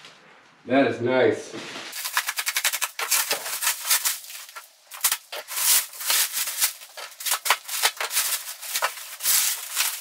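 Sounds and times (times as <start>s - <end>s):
bubble wrap crinkling: 1.6s - 10.0s.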